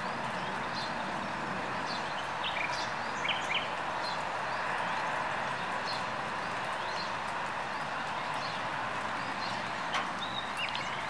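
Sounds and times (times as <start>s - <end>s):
rain hissing: 0.0s - 11.0s
songbirds chirping: 0.0s - 11.0s.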